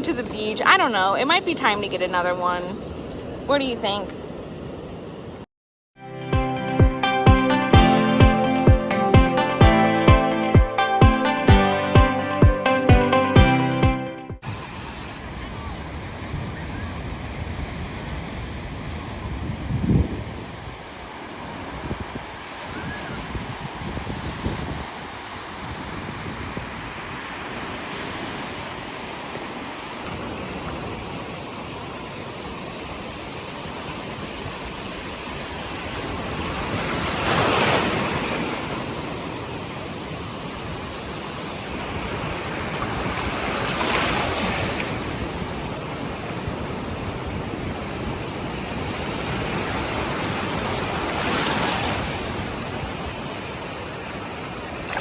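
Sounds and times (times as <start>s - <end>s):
ocean surf wash: 0.0s - 5.5s, 14.4s - 55.0s
waves breaking: 0.0s - 5.5s, 14.4s - 55.0s.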